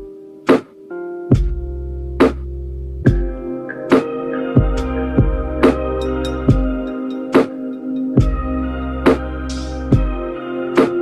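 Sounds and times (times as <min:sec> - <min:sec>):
lo-fi beat with sustained chords: 0:00.0 - 0:11.0.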